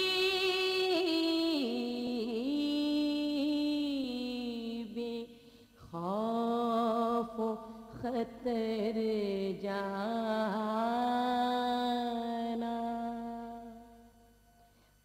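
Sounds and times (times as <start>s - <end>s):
woman chanting a lament: 0.0s - 14.0s.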